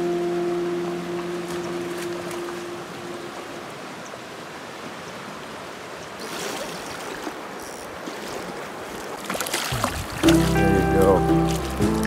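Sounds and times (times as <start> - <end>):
water splashing: 0.0 - 12.0
stream running over gravel: 0.1 - 12.0.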